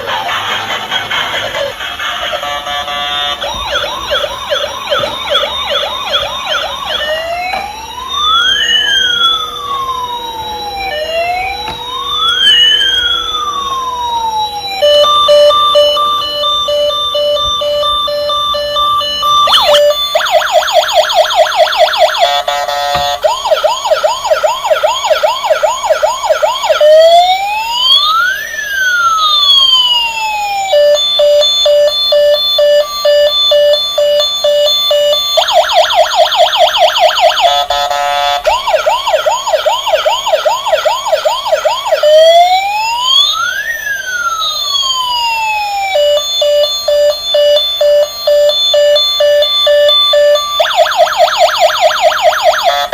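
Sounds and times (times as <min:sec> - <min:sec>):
steady beeping pulses: 0:00.0 - 0:52.9
toy electronic siren: 0:00.0 - 0:52.9.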